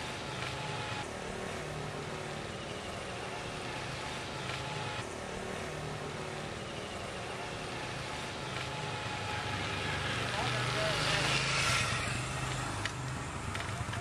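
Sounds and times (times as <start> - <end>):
rushing road noise: 0.0 - 14.0
vehicle engine hum: 0.0 - 14.0.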